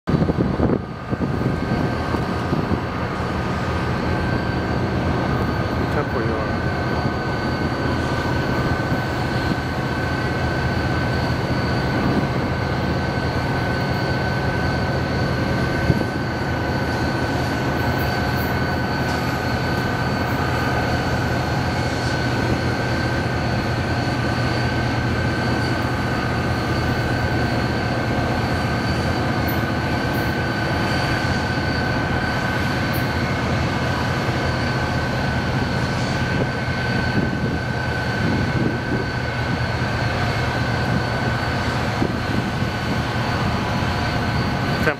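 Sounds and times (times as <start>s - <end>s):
high whine: 0.1s - 44.9s
locomotive engine drone: 0.1s - 44.9s.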